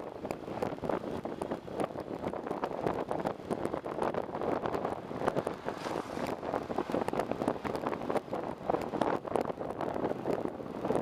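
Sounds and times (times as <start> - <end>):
bus ride rumble: 0.0 - 11.0
wind buffeting microphone: 0.0 - 11.0.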